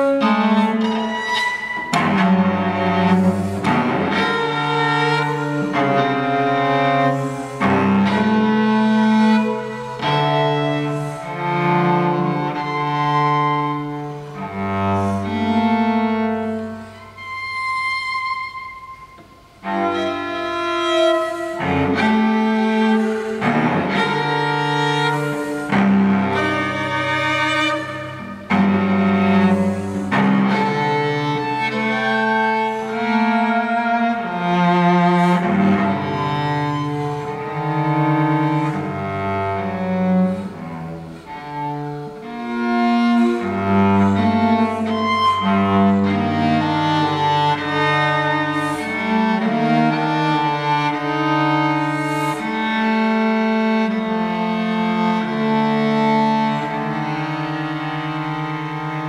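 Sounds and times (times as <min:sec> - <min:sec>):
bowed cello with vibrato: 0:00.0 - 0:59.0.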